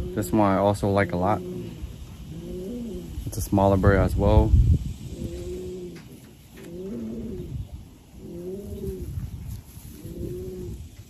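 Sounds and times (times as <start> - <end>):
pigeon cooing: 0.0 - 3.3, 4.9 - 11.0.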